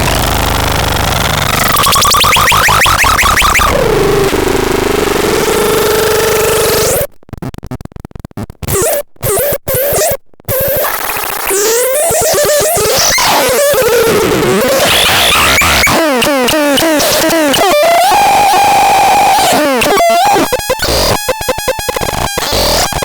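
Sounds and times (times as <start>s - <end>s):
harsh electronic synthesizer: 0.0s - 7.1s, 8.7s - 23.0s.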